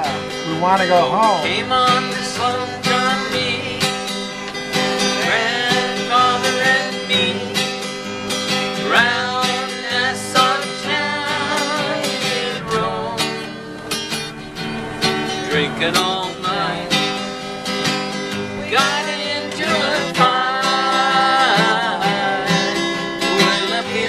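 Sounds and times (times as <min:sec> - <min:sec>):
person singing country tune: 0:00.0 - 0:14.7, 0:15.3 - 0:24.0
acoustic guitar strumming: 0:00.0 - 0:24.0.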